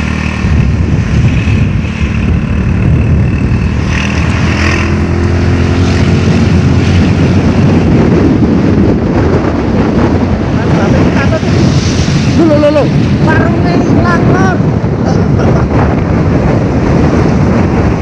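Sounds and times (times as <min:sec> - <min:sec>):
wind gusts buffeting microphone: 0:00.0 - 0:18.0.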